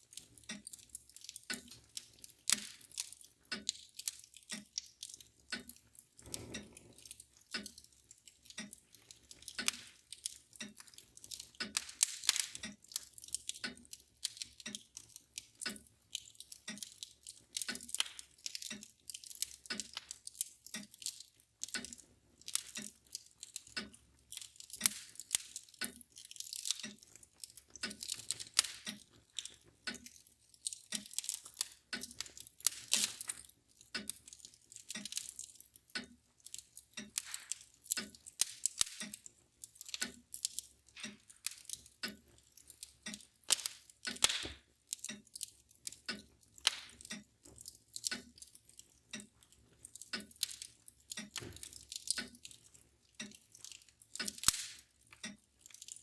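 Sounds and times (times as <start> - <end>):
clock ticking: 0.0 - 56.0
wood fire crackling: 0.0 - 56.0.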